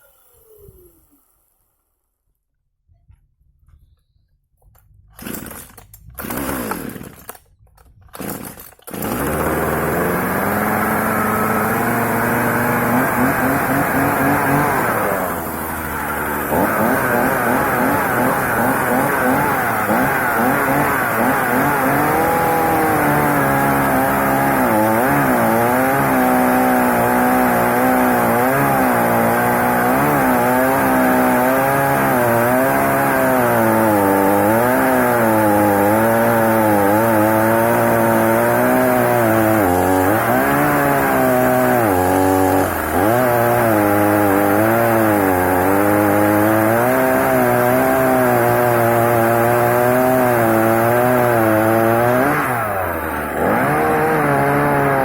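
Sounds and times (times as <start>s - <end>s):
chainsaw cutting wood: 5.1s - 55.0s.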